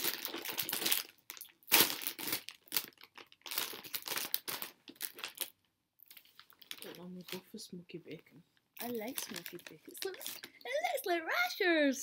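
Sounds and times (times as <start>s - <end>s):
plastic snack bag crinkling: 0.0s - 7.6s, 8.8s - 11.1s.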